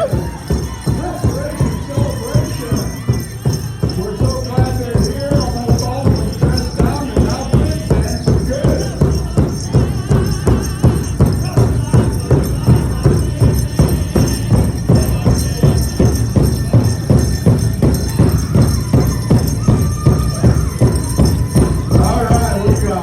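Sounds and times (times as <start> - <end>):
powwow drum beating: 0.0 - 23.0.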